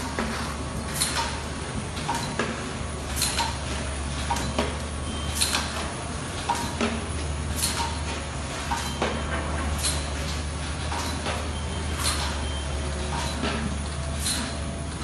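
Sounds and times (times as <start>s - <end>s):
sharp mechanical clacks: 0.0s - 15.0s.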